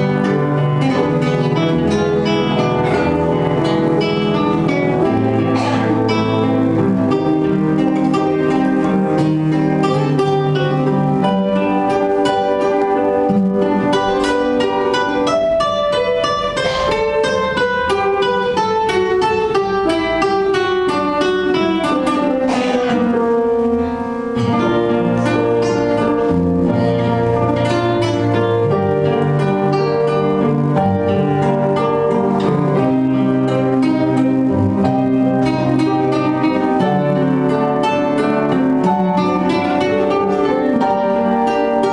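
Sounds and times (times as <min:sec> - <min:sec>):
quickly plucked guitar music: 0:00.0 - 0:41.9.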